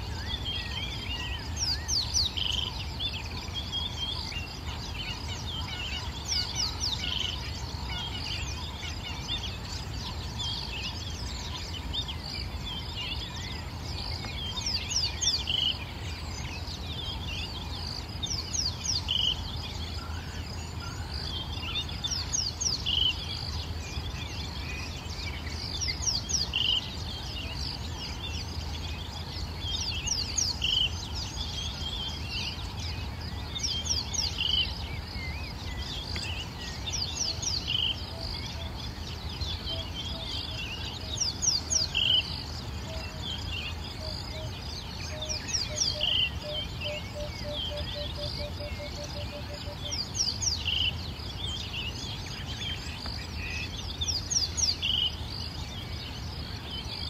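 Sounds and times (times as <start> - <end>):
bird chirping: 0.0 - 57.0
bird singing: 0.0 - 57.0.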